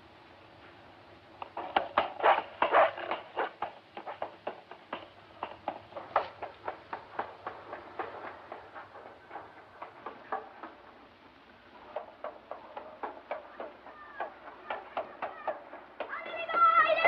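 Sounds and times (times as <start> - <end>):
child running footsteps on pavement: 1.4 - 11.0, 11.6 - 17.0.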